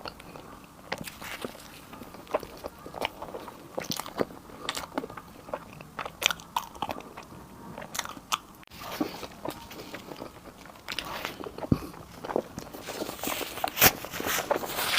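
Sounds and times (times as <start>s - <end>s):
food crunching: 0.0s - 14.9s
person chewing food: 0.0s - 14.9s.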